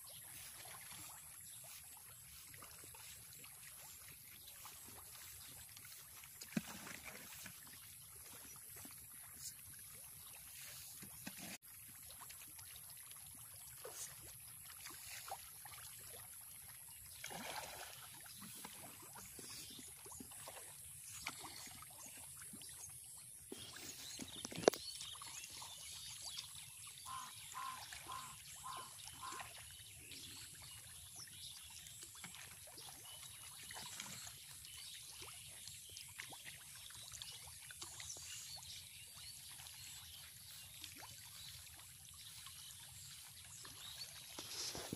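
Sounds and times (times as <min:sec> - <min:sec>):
water trickling and plopping: 0:00.0 - 0:44.9.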